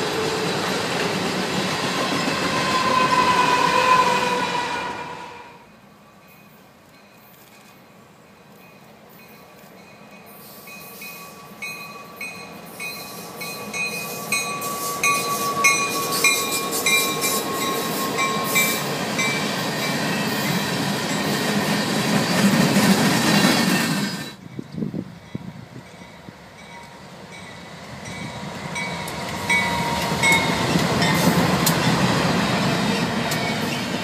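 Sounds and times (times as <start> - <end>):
freight train passing: 0.0 - 34.0.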